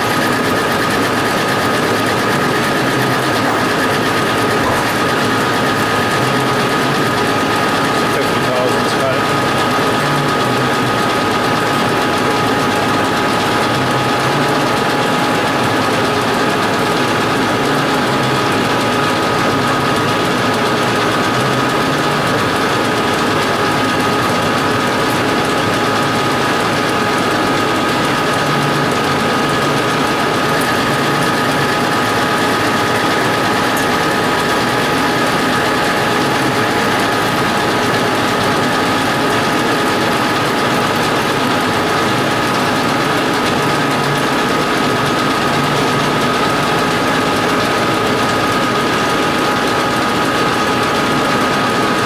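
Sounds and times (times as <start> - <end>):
metal lathe whining: 0.0 - 52.0.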